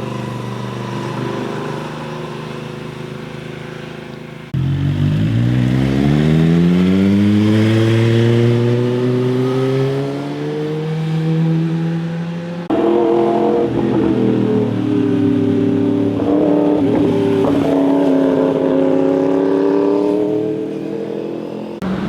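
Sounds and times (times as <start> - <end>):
engines running at steady pitch: 0.0 - 22.0
motorcycle engine accelerating: 0.0 - 22.0.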